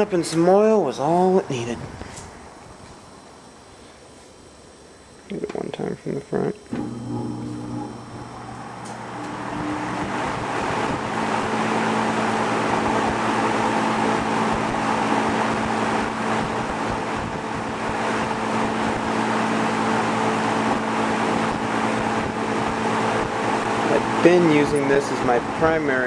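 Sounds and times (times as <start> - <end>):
box fan running: 0.0 - 26.0.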